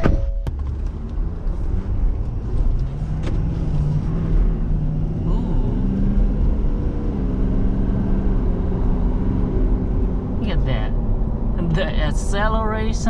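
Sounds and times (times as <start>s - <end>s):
diesel truck engine drone: 0.0s - 13.0s
road rumble: 0.0s - 13.0s.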